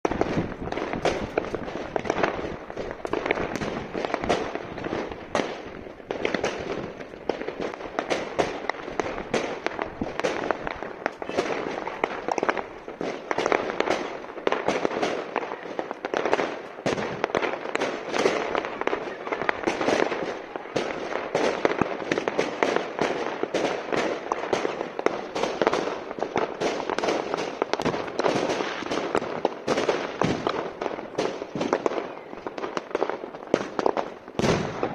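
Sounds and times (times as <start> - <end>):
fireworks bangs and pops: 0.0 - 34.9.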